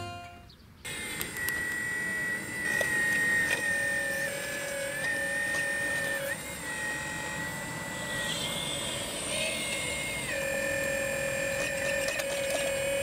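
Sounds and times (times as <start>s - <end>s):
hydraulic pump motor whining: 0.0s - 13.0s.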